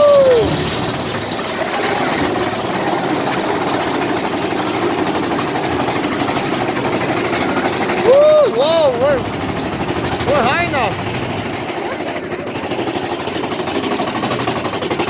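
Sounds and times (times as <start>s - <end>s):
roller coaster rattling on track: 0.0s - 15.0s.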